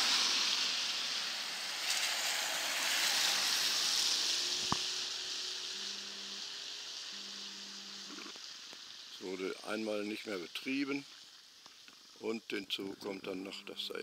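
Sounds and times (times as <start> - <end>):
tyres hissing through slush: 0.0 - 14.0.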